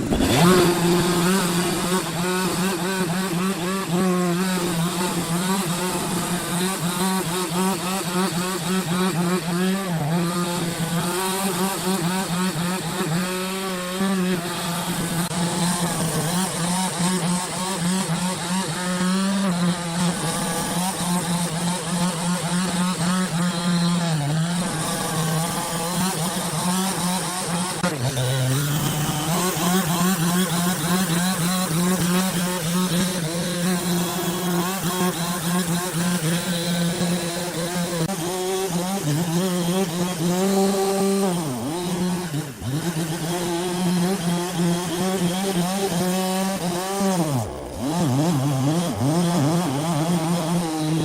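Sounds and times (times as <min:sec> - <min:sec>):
saw engine cutting log: 0:00.0 - 0:51.0.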